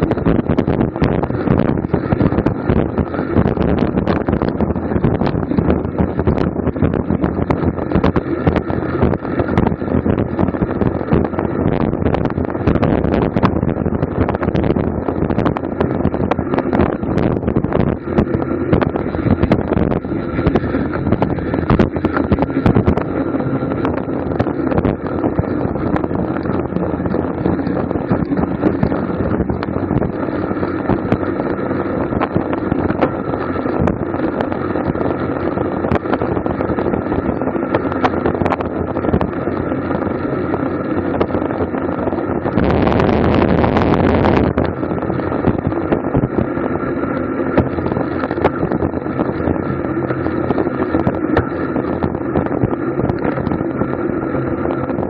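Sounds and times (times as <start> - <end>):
tyre and road noise: 0.0 - 55.0
wind rushing over microphone: 0.0 - 55.0.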